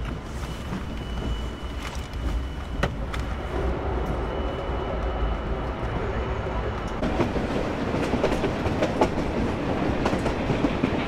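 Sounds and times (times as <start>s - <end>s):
train car rumble: 0.0s - 11.0s.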